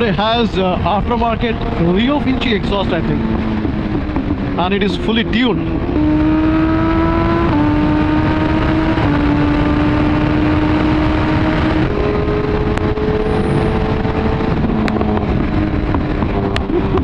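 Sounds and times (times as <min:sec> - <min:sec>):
motorcycle engine cruising: 0:00.0 - 0:17.0
wind rush: 0:00.0 - 0:17.0.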